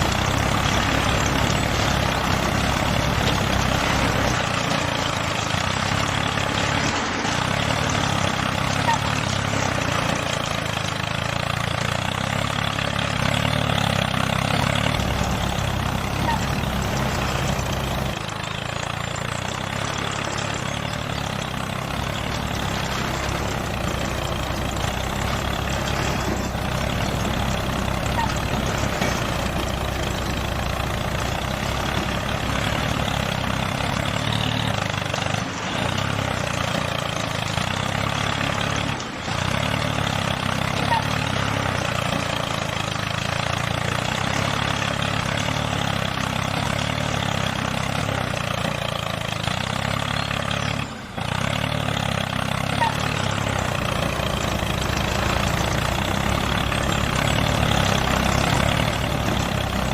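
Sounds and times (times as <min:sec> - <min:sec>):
small tractor motor running: 0:00.0 - 0:59.9.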